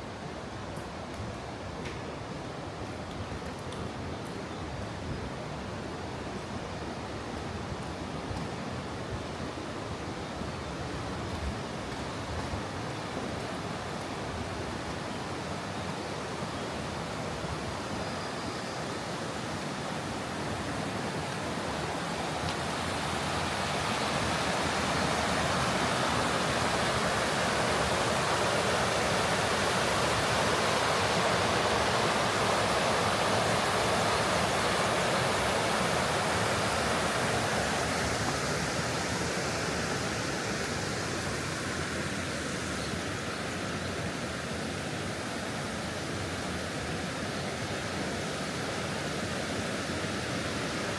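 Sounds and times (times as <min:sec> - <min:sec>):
rushing stream water: 0:00.0 - 0:50.9.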